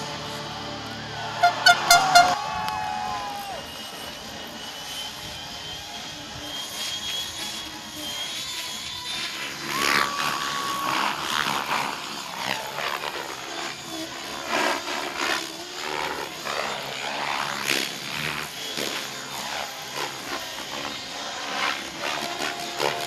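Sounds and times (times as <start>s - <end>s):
model helicopter rotor whine: 0.0s - 23.0s.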